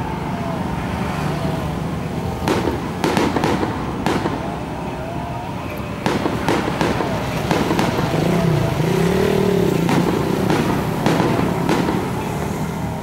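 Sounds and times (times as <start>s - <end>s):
low background noise: 0.0s - 13.0s
fireworks bangs: 1.4s - 13.0s.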